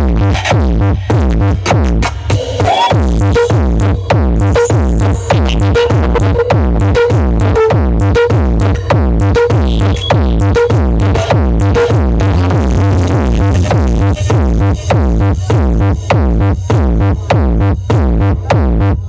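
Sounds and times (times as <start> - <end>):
electronic dance music heavy bass: 0.0 - 19.0.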